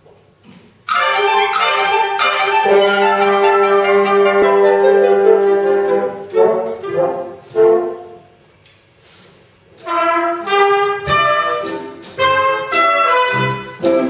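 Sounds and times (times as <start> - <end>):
brass band playing: 0.9 - 8.3, 9.8 - 14.0.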